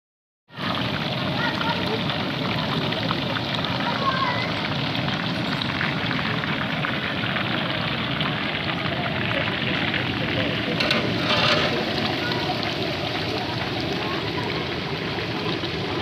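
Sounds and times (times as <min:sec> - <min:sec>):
hot oil sizzling: 0:00.5 - 0:16.0.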